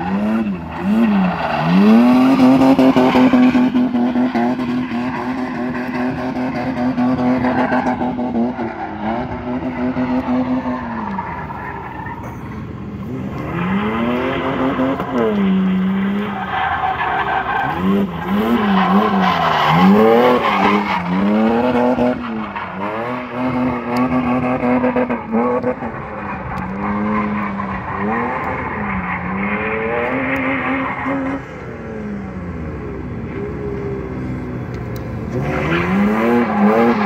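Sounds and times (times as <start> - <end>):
tyres squealing on asphalt: 0.0 - 31.6, 35.3 - 37.0
car engine revving: 0.0 - 37.0.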